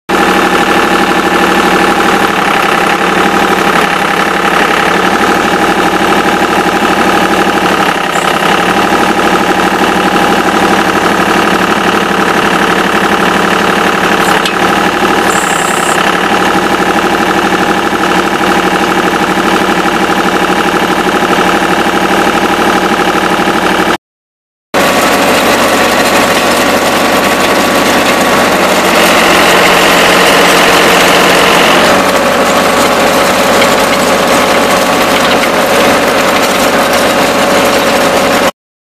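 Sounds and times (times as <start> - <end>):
diesel engine running steadily: 0.1 - 24.0, 24.8 - 38.6.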